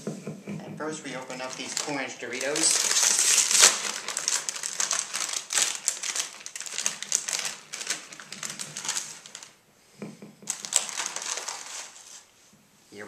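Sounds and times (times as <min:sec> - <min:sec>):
chip bag crinkling: 0:00.9 - 0:09.6, 0:10.5 - 0:12.3.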